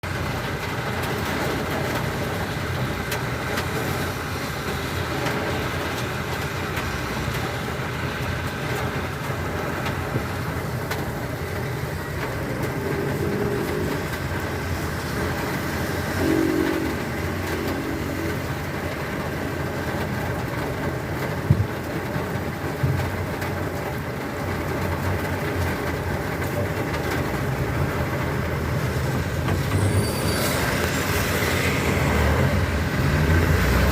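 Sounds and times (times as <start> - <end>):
heavy rain: 0.0 - 33.9
traffic on wet road: 0.0 - 33.9.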